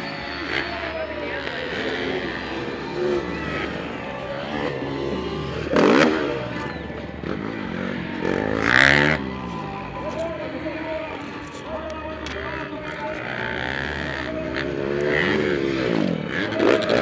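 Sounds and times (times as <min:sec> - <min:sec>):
motocross engines revving: 0:00.0 - 0:17.0.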